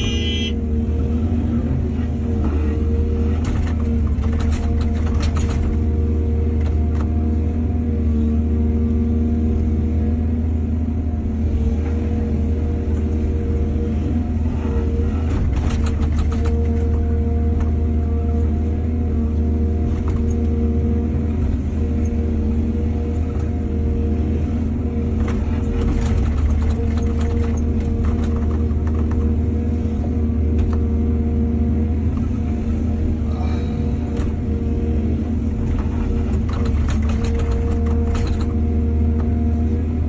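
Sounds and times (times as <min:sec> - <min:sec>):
excavator engine running: 0:00.0 - 0:40.0.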